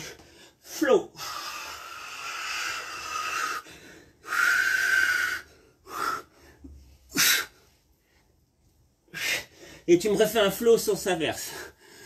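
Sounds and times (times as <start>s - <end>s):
man breathing hard: 0.0s - 8.3s, 9.0s - 9.9s, 11.3s - 12.0s.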